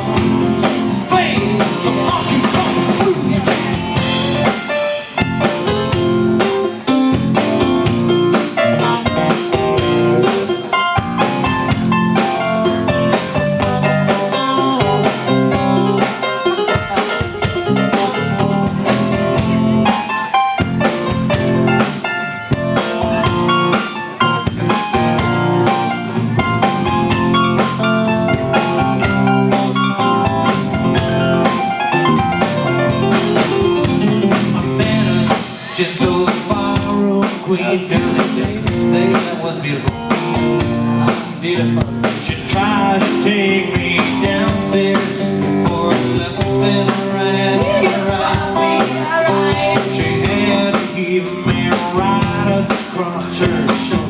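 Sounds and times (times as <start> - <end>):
electric guitar: 0.0 - 54.0
live rock band instrumental: 0.0 - 54.0.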